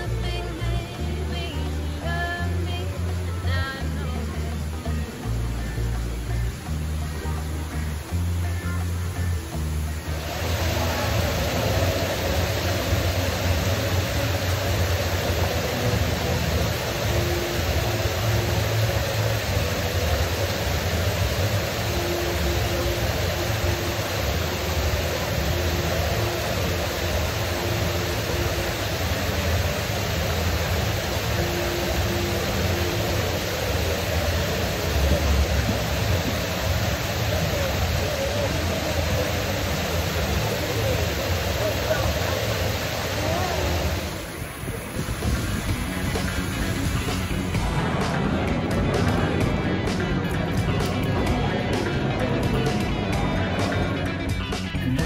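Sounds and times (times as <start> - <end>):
waterfall splashing into basin: 1.2 - 49.4.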